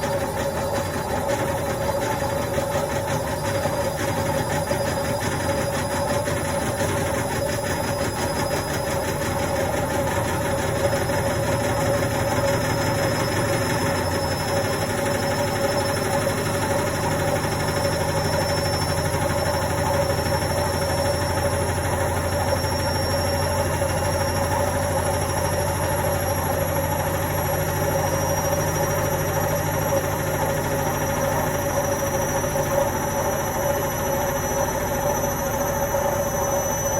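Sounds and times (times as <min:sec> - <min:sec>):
thin high whine: 0:00.0 - 0:36.9
washing machine hum: 0:00.0 - 0:36.9.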